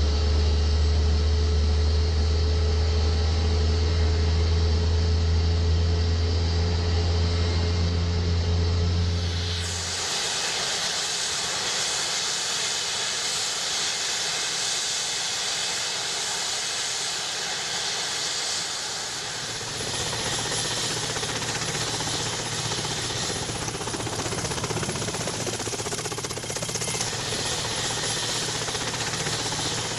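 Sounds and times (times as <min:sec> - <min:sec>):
helicopter engine and rotor noise: 0:00.0 - 0:29.9
helicopter rotor beat: 0:00.0 - 0:29.9.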